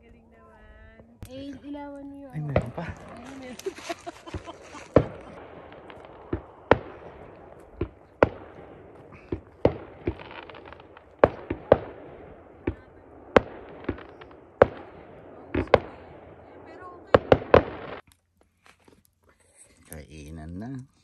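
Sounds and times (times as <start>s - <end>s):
fireworks bangs: 1.2s - 18.0s.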